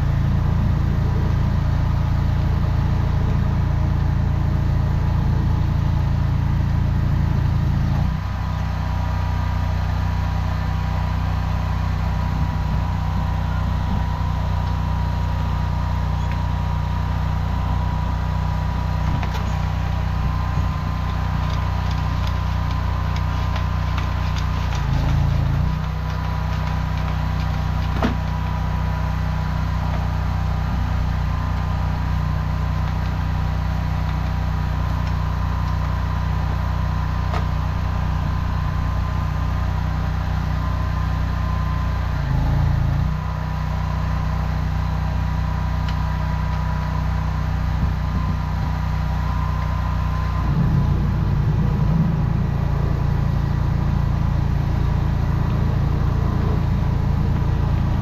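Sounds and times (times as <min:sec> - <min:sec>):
drain jetter engine running: 0:00.0 - 0:58.0.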